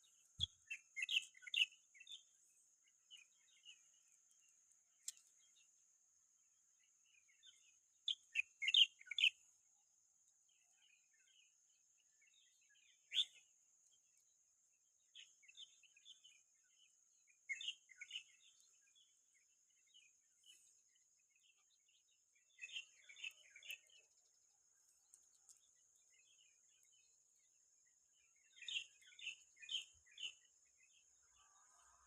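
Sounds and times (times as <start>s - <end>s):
wild birds chirping: 0.0s - 32.0s.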